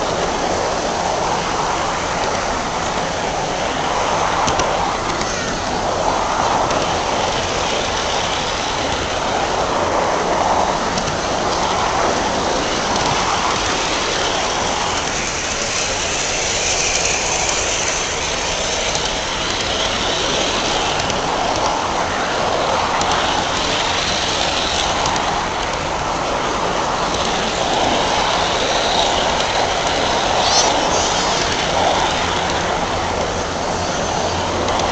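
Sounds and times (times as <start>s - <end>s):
model train wheels rattling: 0.0s - 34.9s.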